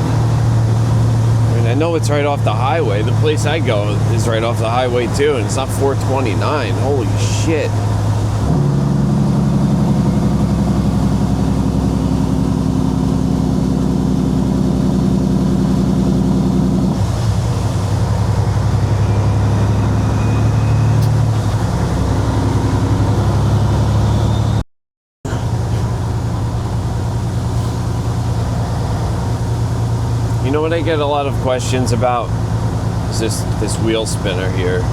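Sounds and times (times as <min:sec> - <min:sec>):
truck diesel engine running: 0:00.0 - 0:24.6, 0:25.3 - 0:34.9.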